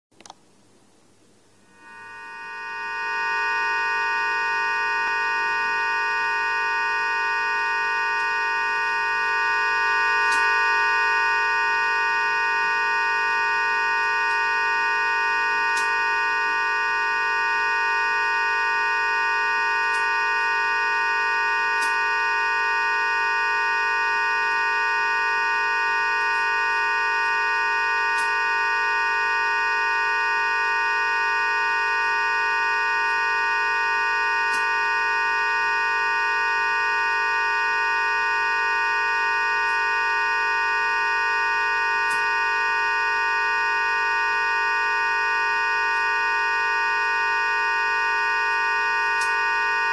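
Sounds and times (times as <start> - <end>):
electronic drone: 1.7 - 49.9.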